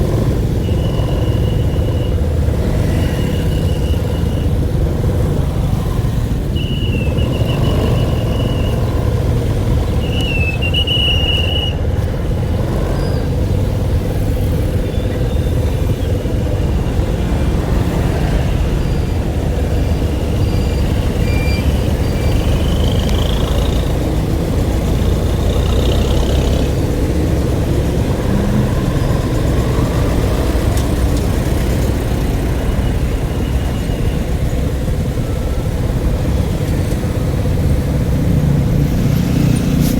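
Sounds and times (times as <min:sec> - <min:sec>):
motor vehicle rumbling: 0:00.0 - 0:39.9.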